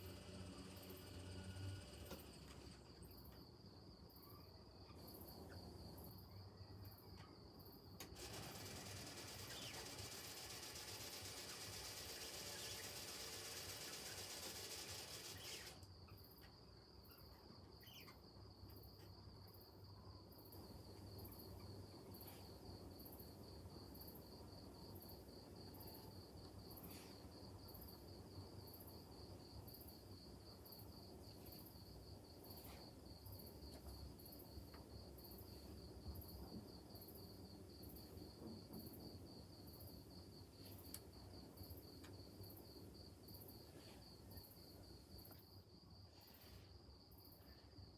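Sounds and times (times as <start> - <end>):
insect chirping: 0.0 - 47.9.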